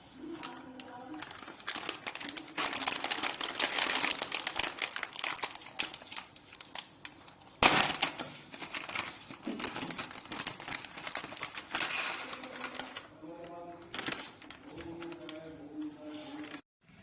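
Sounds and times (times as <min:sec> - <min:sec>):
packaging crinkling and rustling: 0:00.0 - 0:16.6.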